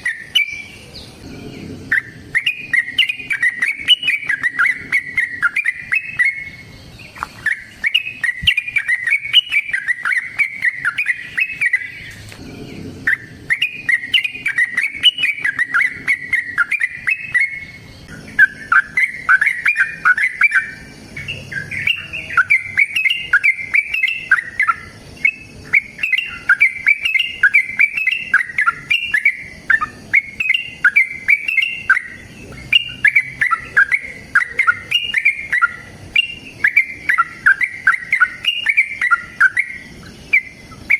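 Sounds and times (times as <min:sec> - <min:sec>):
bird singing bubbling chatter: 0:00.0 - 0:40.9.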